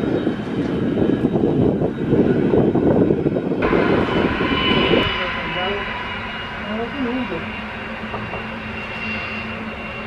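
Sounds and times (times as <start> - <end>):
jet engine high whine: 0.0 - 10.0
jet engines rumbling: 0.0 - 10.0.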